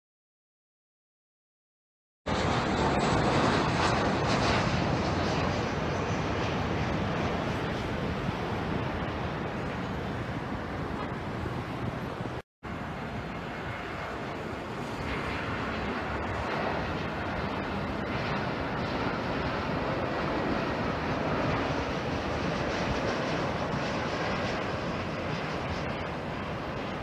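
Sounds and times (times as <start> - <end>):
jet airliner engine rush: 2.3 - 27.0.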